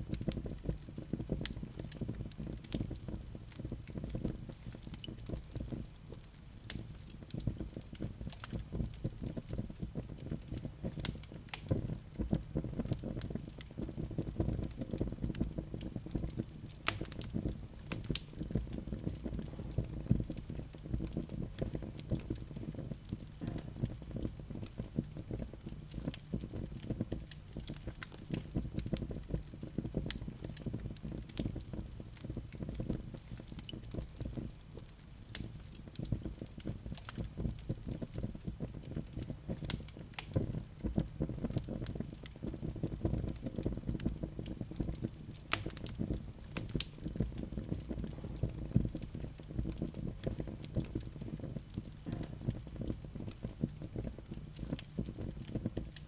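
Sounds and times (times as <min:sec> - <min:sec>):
fire burning in a fireplace: 0:00.0 - 0:56.0
logs crackling and popping: 0:00.0 - 0:56.0.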